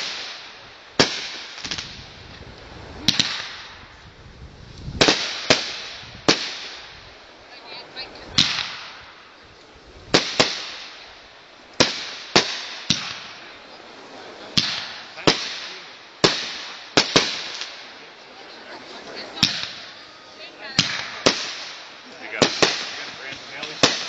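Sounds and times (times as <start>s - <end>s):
small fireworks pops: 0.0s - 4.1s, 4.7s - 7.3s, 8.3s - 13.6s, 14.5s - 18.1s, 19.1s - 20.1s, 20.7s - 24.0s
fireworks bangs: 0.0s - 24.0s.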